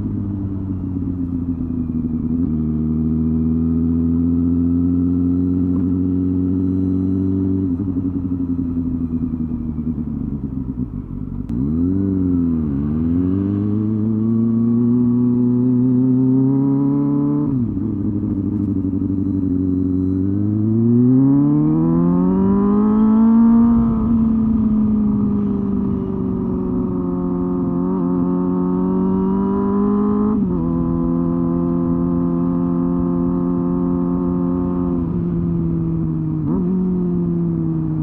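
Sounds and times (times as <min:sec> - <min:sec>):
motorcycle engine and exhaust: 0:00.0 - 0:38.0.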